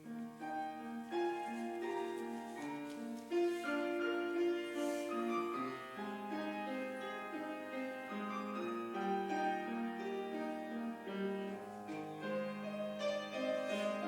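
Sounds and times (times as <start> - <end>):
slow melodic piano: 0.0 - 14.0.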